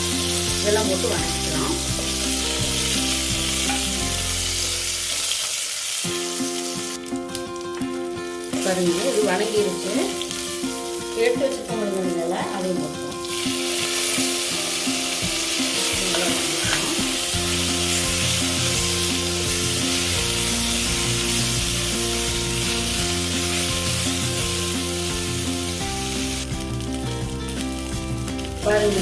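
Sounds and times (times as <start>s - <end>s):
background music: 0.0s - 29.0s
food sizzling in hot oil: 0.0s - 29.0s.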